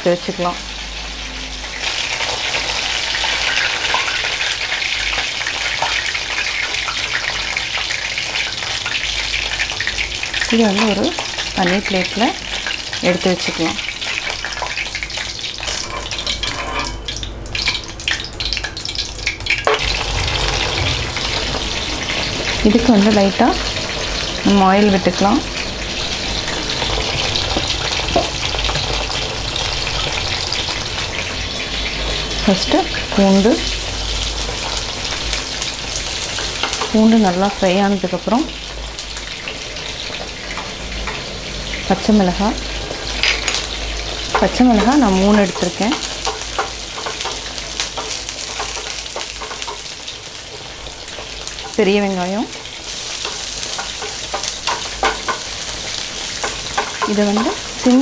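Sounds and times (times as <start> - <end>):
deep-frying sizzle in hot oil: 0.0 - 58.0.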